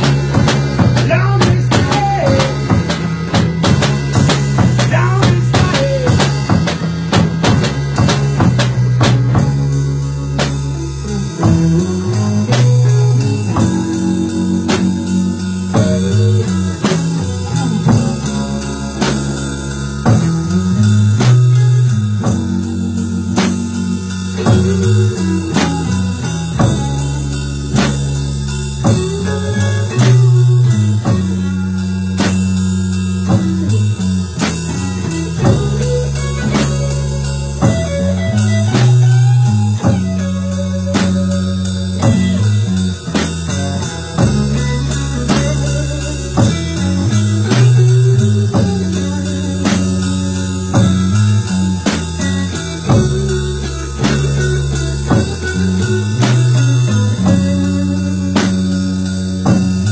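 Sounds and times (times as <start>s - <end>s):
drum kit: 0.0s - 59.9s
electric guitars holding long notes: 0.0s - 59.9s.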